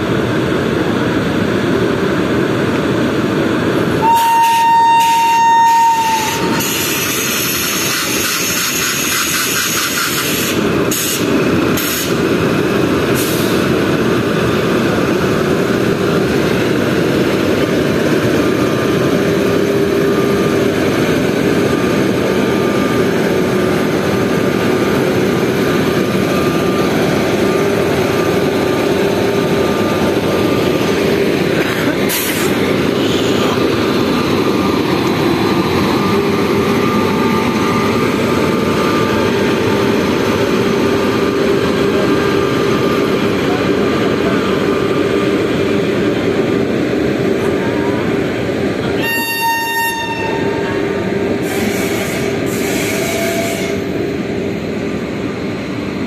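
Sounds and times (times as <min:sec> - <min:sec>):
electric locomotive rumbling: 0:00.0 - 0:56.0.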